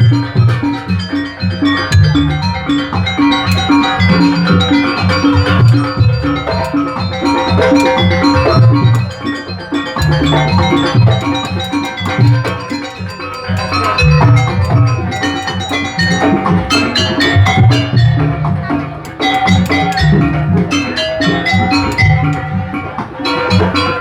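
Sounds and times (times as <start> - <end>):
drums: 0.0 - 24.0
pitched metal percussion: 0.0 - 24.0.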